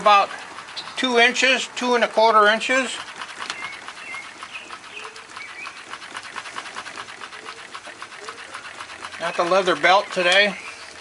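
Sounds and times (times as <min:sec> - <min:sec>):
pedal scroll saw clicking: 0:00.0 - 0:11.0.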